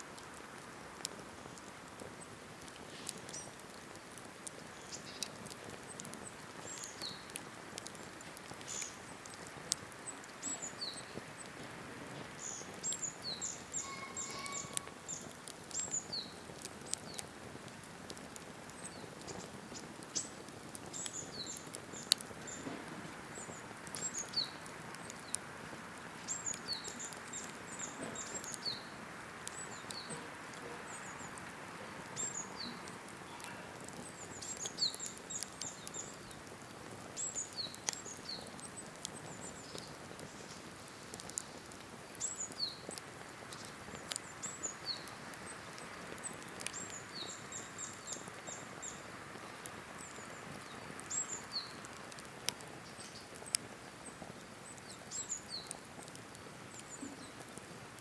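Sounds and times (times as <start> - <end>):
campfire crackling and popping: 0.0 - 58.0
soft fire hiss: 0.0 - 58.0
small birds chirping: 1.0 - 58.0.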